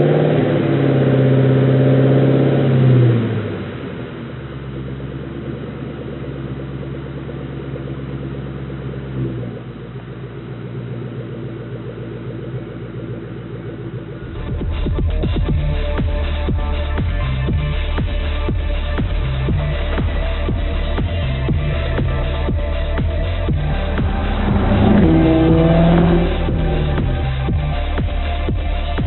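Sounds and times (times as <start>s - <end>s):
car engine revving and idling: 0.0s - 29.0s.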